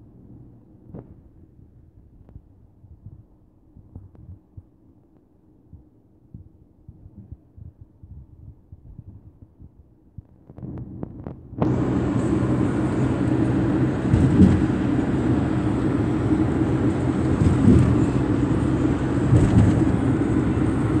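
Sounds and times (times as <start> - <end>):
vehicle interior rumble and wind: 0.0 - 21.0.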